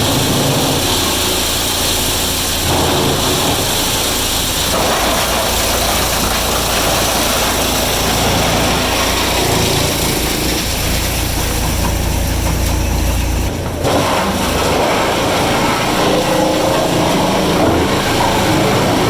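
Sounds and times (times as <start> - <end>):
busy machine noise: 0.0 - 19.0
heavy machinery humming: 0.0 - 19.0.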